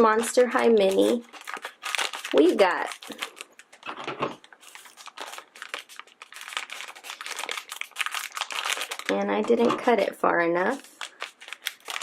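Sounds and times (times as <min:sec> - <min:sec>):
scissors cutting plastic: 0:00.0 - 0:10.0
plastic bag crinkling: 0:00.0 - 0:12.0.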